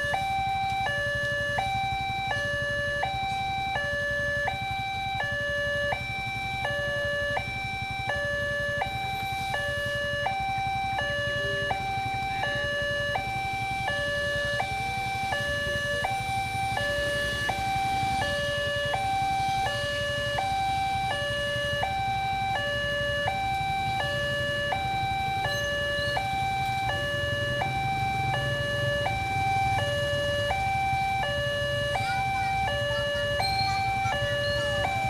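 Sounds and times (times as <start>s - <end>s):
level crossing two-tone alarm: 0.0s - 35.0s
low traffic rumble: 0.0s - 35.0s.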